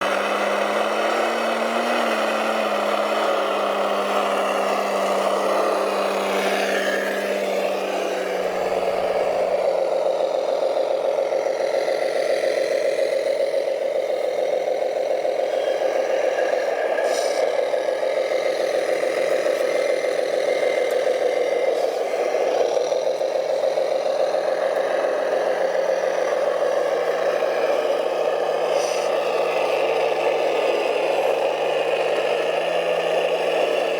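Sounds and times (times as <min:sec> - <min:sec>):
model truck motor hum: 0:00.0 - 0:33.9.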